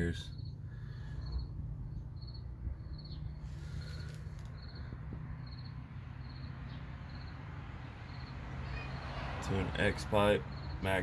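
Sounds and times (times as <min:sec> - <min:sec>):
crickets chirping: 0:00.0 - 0:09.4, 0:10.4 - 0:10.9.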